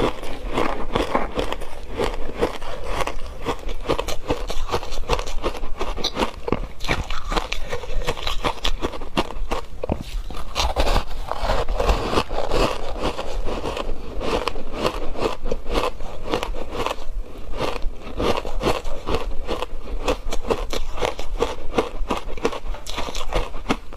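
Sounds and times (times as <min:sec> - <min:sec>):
ice being chewed and crunched: 0:00.0 - 0:23.9.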